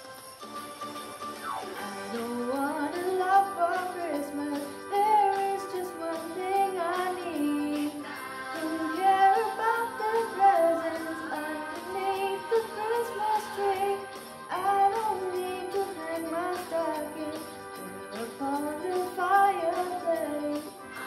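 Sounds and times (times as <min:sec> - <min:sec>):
pop backing track: 0:00.0 - 0:21.0
sleigh bells: 0:00.0 - 0:21.0
woman singing: 0:01.8 - 0:20.8.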